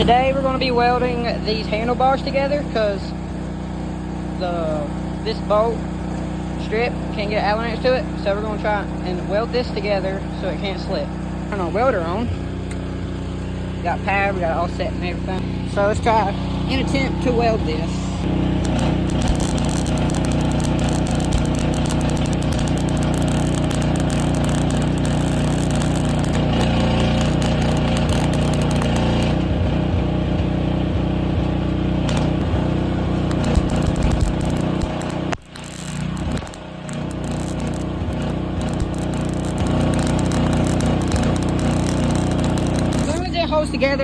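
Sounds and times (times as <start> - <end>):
low hum: 0.0 - 44.0
welding arc crackling: 0.0 - 44.0.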